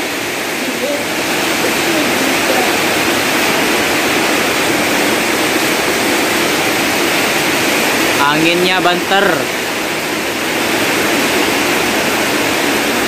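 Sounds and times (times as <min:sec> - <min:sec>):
rain: 0:00.0 - 0:13.0
strong wind: 0:00.0 - 0:13.0.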